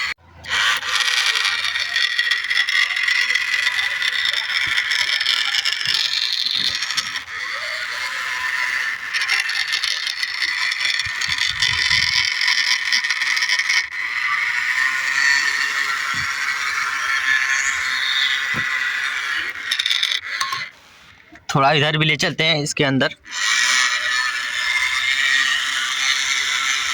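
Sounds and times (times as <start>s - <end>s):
toy electric motor whining: 0.0s - 21.5s, 23.2s - 26.9s.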